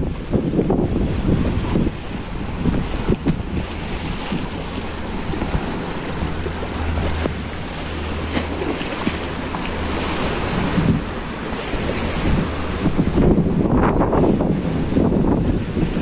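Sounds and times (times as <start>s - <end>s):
waves washing over rocks: 0.0s - 16.0s
wind rumbling on microphone: 0.0s - 16.0s.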